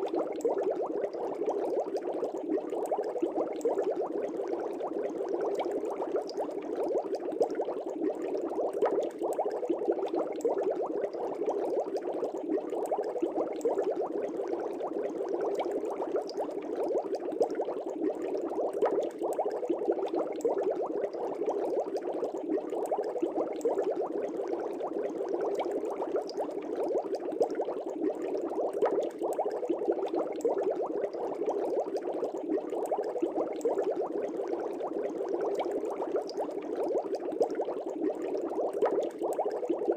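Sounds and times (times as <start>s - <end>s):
air bubbles burbling in aquarium: 0.0s - 39.9s.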